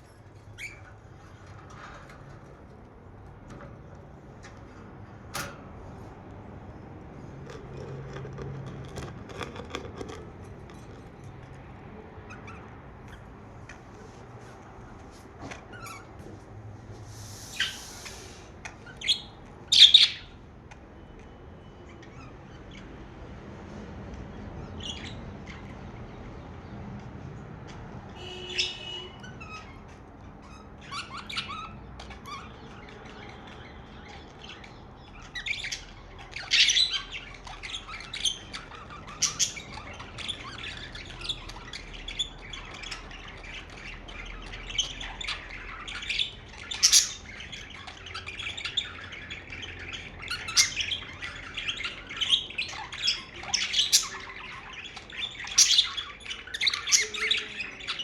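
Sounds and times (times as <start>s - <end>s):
budgerigars chirping and squawking: 0.0s - 16.3s, 17.2s - 26.7s, 27.7s - 58.0s.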